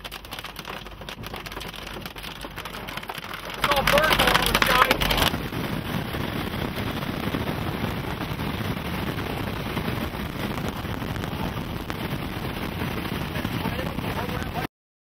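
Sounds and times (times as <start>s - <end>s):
wind and road noise in vehicle: 0.0s - 14.7s.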